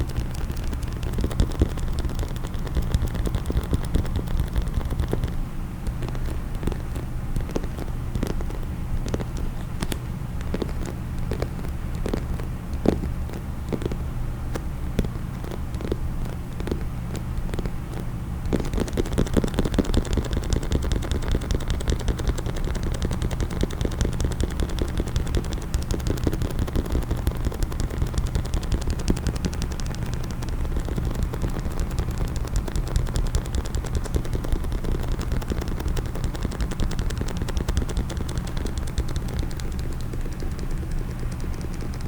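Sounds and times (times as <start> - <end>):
tapping on a case: 0.0 - 42.0.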